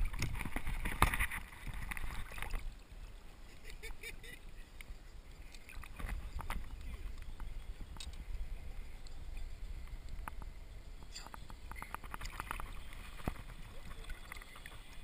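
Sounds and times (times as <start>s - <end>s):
water lapping against hull: 0.0s - 15.0s.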